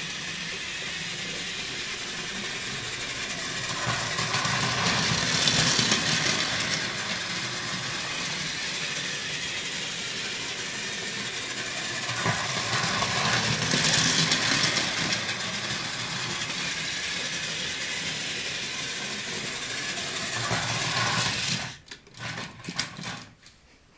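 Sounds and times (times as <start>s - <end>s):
toy train motor whirring: 0.0s - 23.5s
wheels rattling on plastic track: 0.0s - 23.6s.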